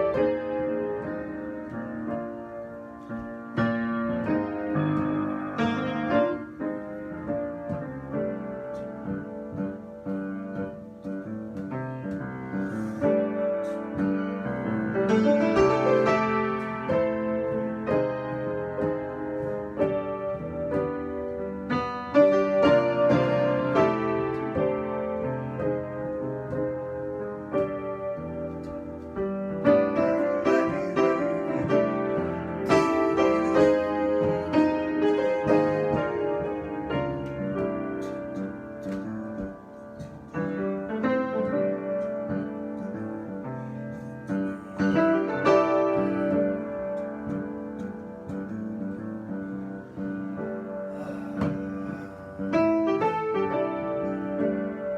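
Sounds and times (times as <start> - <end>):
solo piano improvisation: 0.0 - 54.9.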